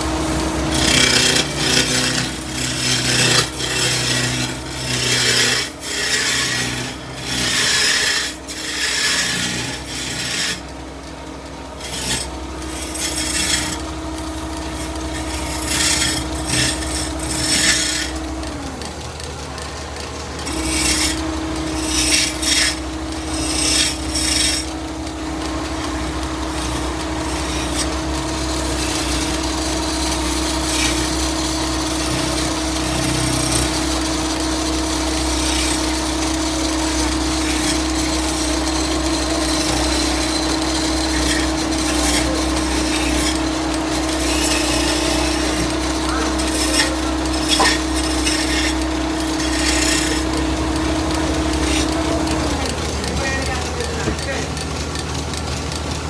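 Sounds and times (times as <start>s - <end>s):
chisel cutting spinning wood: 0.0s - 56.0s
lathe machine hum: 0.0s - 56.0s.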